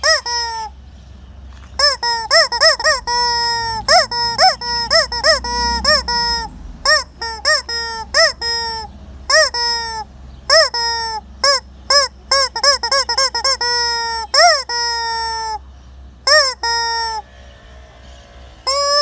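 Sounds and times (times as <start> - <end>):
squeaky chicken toy squawking: 0.0 - 0.8, 1.7 - 15.6, 16.2 - 17.3, 18.6 - 19.0.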